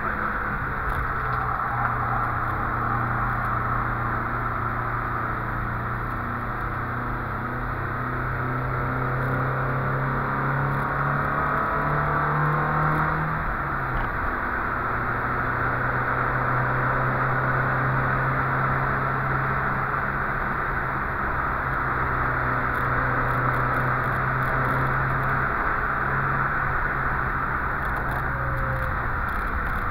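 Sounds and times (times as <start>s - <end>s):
car engine from inside cabin: 0.0s - 29.9s
wind and road noise: 0.0s - 29.9s.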